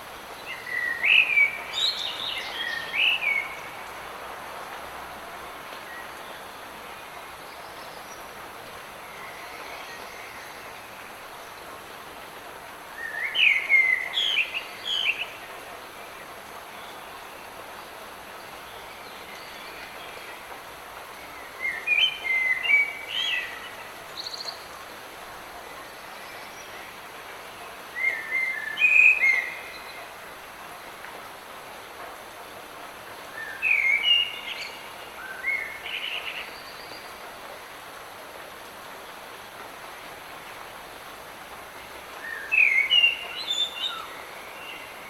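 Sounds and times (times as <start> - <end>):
light rain hiss: 0.0 - 45.0.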